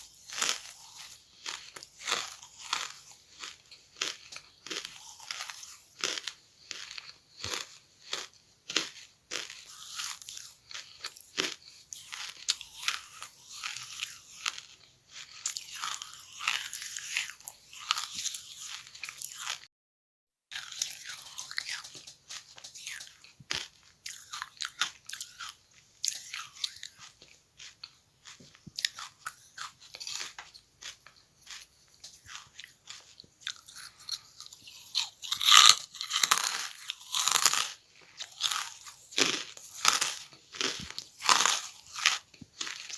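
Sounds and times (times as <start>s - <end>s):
charcoal being chewed: 0.0s - 19.7s, 20.5s - 42.9s.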